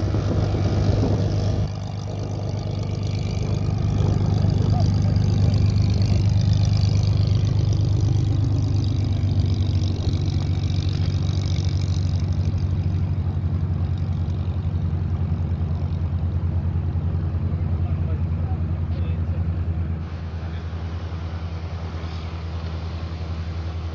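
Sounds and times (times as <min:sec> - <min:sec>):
piston aircraft engine pulsing: 0:00.0 - 0:23.9.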